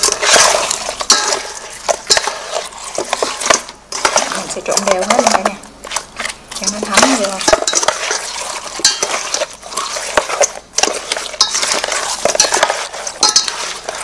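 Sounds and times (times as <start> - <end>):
scrapes and clinks in a bowl: 0.0 - 14.0.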